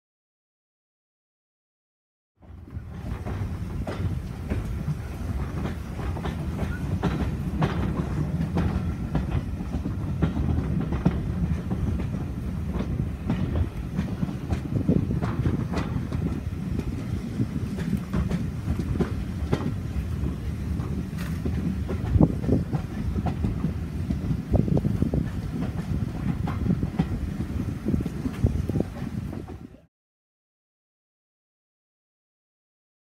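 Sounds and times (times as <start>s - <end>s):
train wheels clattering over rail joints: 2.4s - 29.7s
train low rumble: 2.4s - 29.9s.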